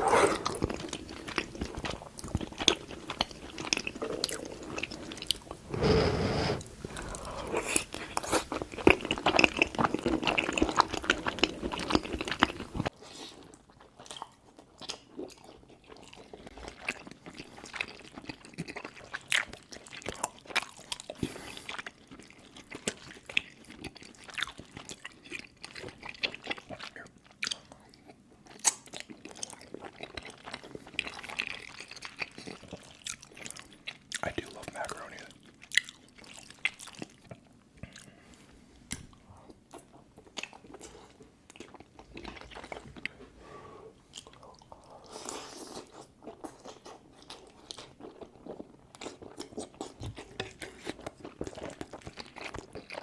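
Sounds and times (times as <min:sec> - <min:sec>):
chewing with wet smacking: 0:00.4 - 0:05.6, 0:07.6 - 0:43.2, 0:44.1 - 0:53.0.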